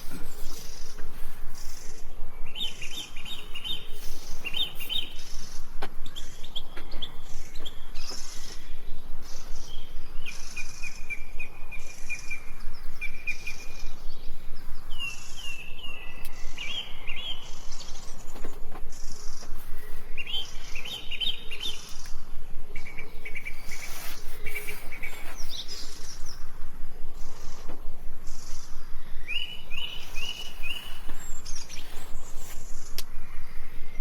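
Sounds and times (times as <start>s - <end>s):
pulsing insect chorus: 0.0s - 34.0s
small birds chirping: 0.0s - 34.0s.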